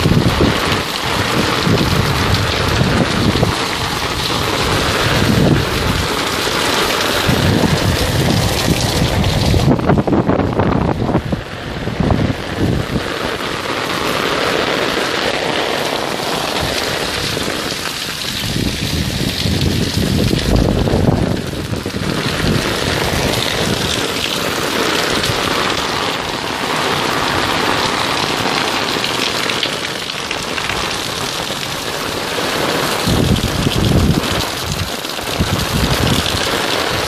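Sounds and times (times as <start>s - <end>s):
torrential rain pouring: 0.0s - 37.0s.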